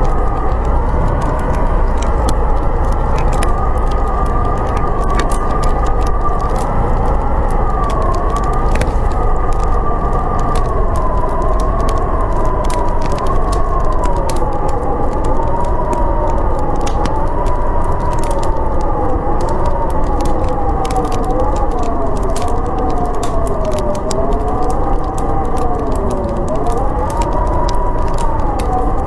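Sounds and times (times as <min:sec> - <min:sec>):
fire crackling and popping: 0:00.0 - 0:29.0
howling storm wind: 0:00.0 - 0:29.0.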